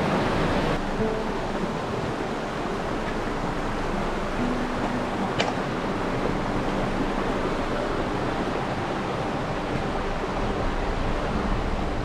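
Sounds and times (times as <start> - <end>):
river rapids rushing over rocks: 0.0 - 12.0.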